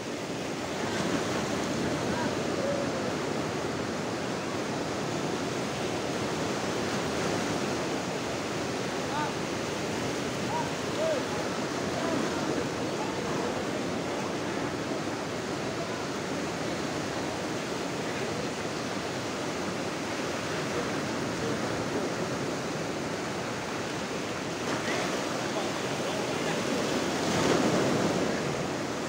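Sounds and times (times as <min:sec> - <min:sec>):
surf breaking on beach: 0:00.0 - 0:29.0.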